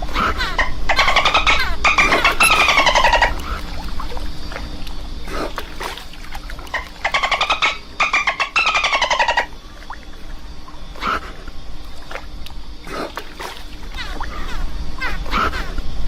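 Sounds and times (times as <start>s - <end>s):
dolphin clicks and buzzing squawks: 0.0s - 15.9s.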